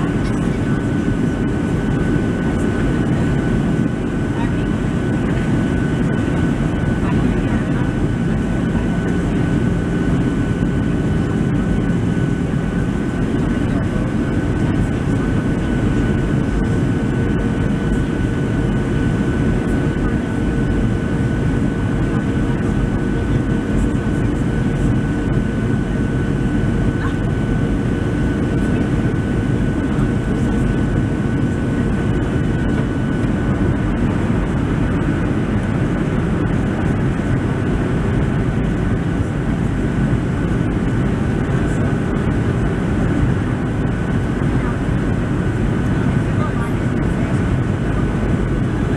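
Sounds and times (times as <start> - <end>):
jet engines droning: 0.0 - 48.9.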